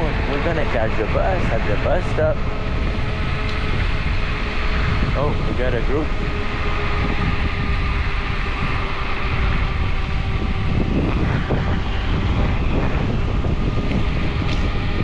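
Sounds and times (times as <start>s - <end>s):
faint steady whine: 0.0s - 15.0s
scooter road noise: 0.0s - 15.0s
wind rushing over microphone: 0.0s - 15.0s.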